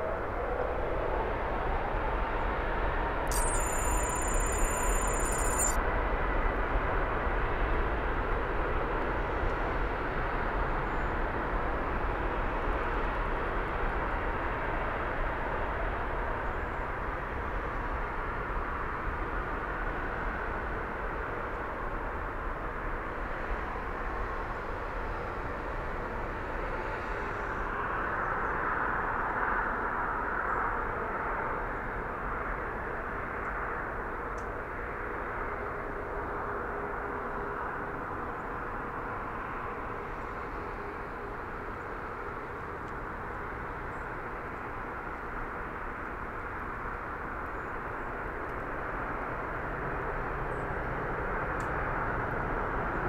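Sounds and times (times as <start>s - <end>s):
jet engines of departing airliner: 0.0s - 4.9s, 5.8s - 53.0s.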